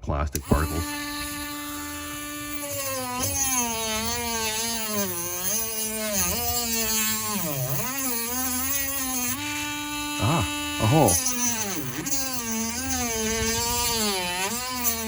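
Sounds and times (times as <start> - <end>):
rotary tool cutting plastic: 0.3 - 15.0.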